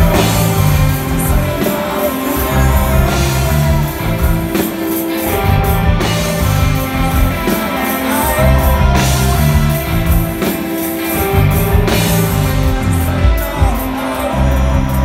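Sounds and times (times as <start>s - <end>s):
live rock band: 0.0s - 15.0s.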